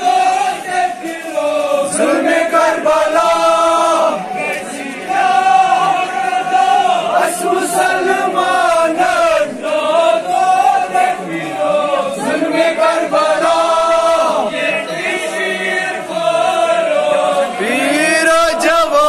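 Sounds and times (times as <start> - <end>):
men chanting an elegy: 0.0 - 19.0.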